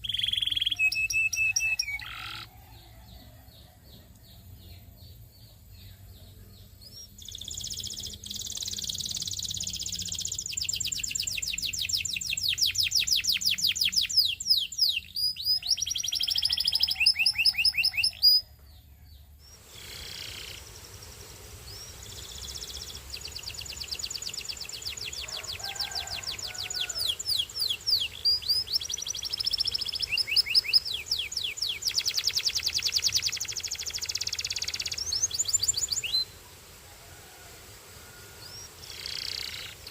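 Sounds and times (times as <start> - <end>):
canary singing trills: 0.0 - 36.4, 38.4 - 39.9.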